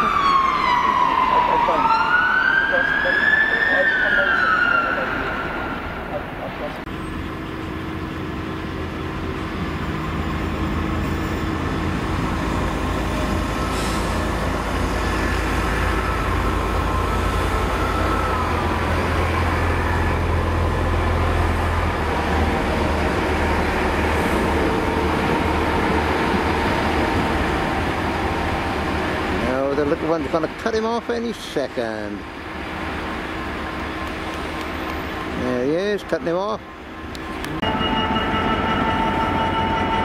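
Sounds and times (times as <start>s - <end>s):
diesel train engine rumbling: 0.0s - 40.0s.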